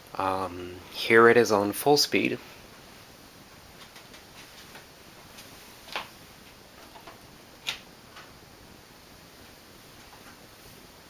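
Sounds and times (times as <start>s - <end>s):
ceiling fan whoosh of air: 0.0s - 11.0s.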